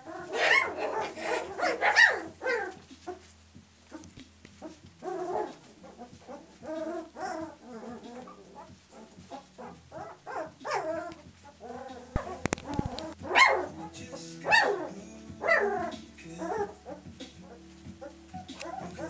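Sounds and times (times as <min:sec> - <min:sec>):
puppies whining and yipping: 0:00.0 - 0:19.0.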